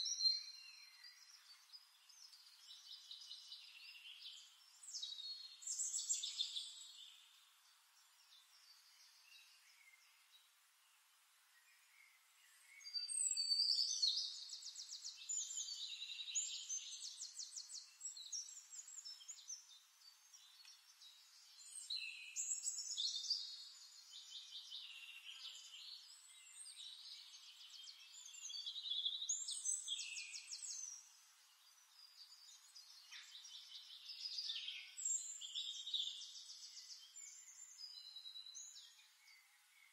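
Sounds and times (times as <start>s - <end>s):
faint hiss: 0.0s - 39.9s.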